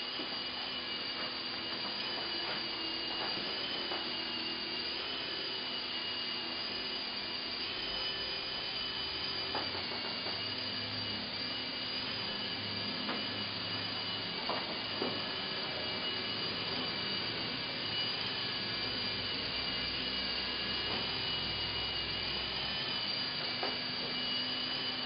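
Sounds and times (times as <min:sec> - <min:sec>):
toy helicopter whining: 0:00.0 - 0:25.0.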